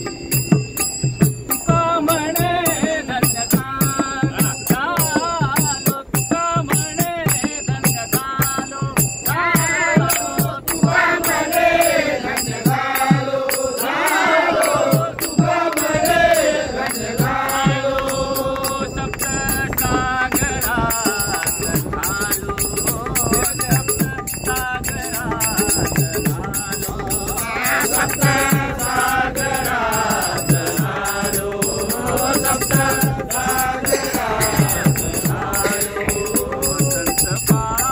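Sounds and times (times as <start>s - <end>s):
hand cymbals struck: 0.0s - 37.9s
men singing together: 0.0s - 37.9s.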